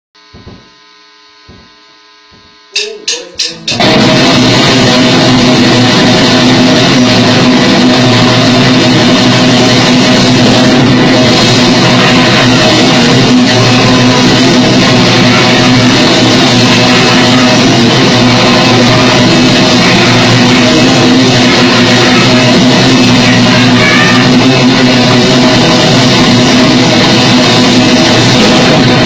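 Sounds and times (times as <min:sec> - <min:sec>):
grindcore band playing: 0:02.7 - 0:29.0.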